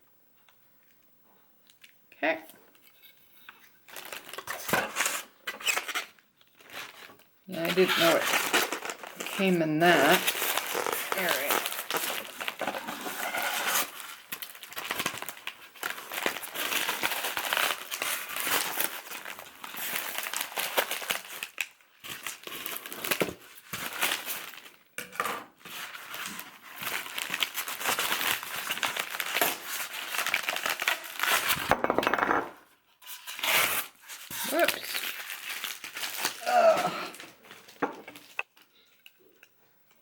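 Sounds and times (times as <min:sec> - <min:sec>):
packing wrap crinkling: 0:02.7 - 0:24.8, 0:25.6 - 0:31.7, 0:33.3 - 0:39.5.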